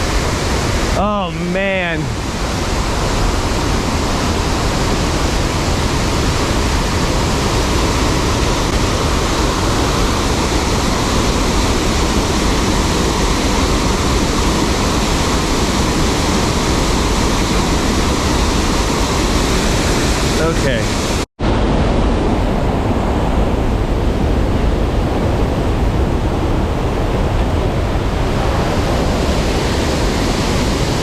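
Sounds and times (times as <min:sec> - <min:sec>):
waterfall rushing: 0:00.0 - 0:21.6, 0:25.8 - 0:31.0.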